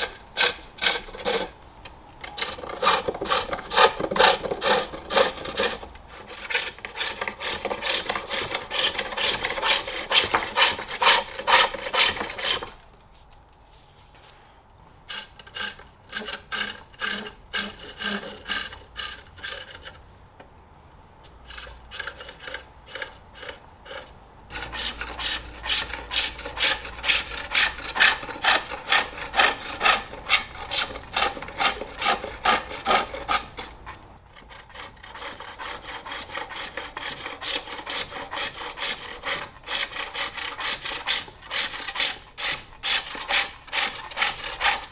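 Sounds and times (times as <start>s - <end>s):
hook tool scraping wood on lathe: 0.0s - 1.6s, 2.2s - 12.8s, 15.1s - 20.0s, 21.4s - 44.9s.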